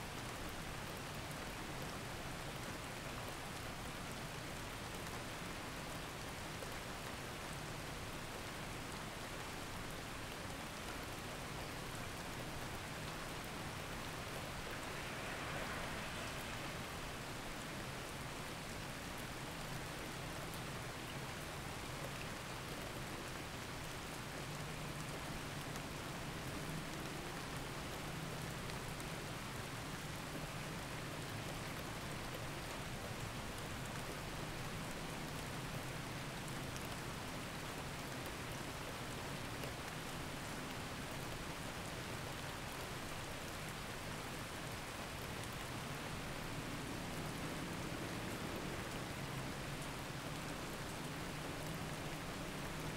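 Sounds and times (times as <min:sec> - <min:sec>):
rain hiss and patter: 0:00.0 - 0:52.9.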